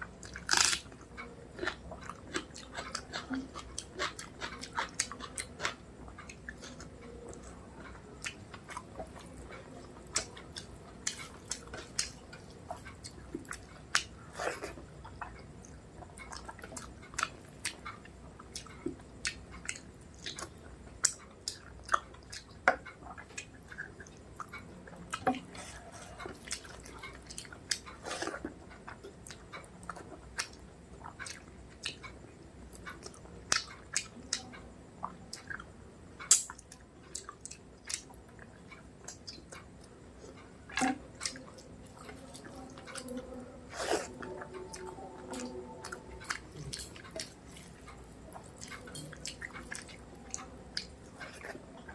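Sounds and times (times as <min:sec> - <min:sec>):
close-up chewing and mouth sounds: 0:00.0 - 0:51.9.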